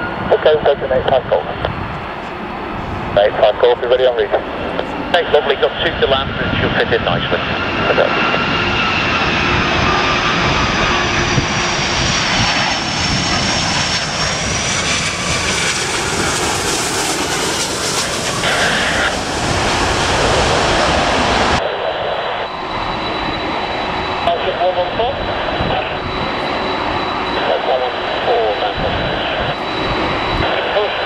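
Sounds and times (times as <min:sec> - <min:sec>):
jet engines whining: 0:00.0 - 0:31.0
wind: 0:00.0 - 0:31.0.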